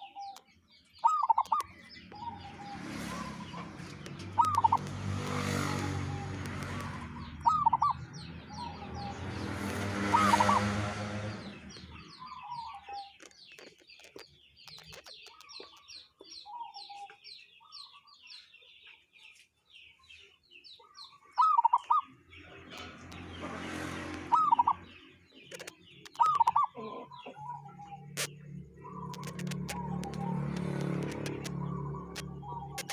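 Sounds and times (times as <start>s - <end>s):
dove calling: 0.0s - 18.8s, 20.7s - 32.9s
high bird chirps: 0.0s - 32.9s.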